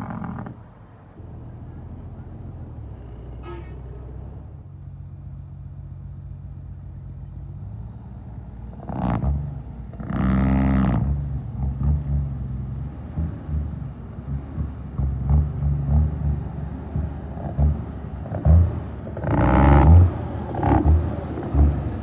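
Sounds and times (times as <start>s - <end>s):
pulsing engine rumble: 0.0s - 22.0s.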